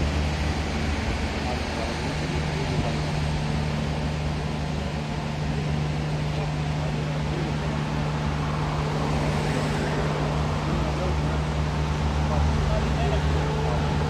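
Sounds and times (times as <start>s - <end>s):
car engine drone: 0.0s - 14.0s
road and tyre rush: 0.0s - 14.0s.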